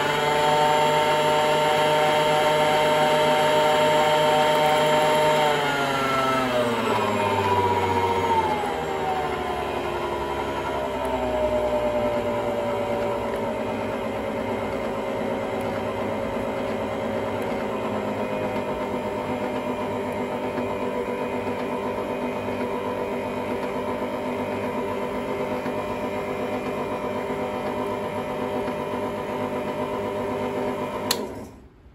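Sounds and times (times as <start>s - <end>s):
stand mixer motor whining: 0.0s - 31.6s.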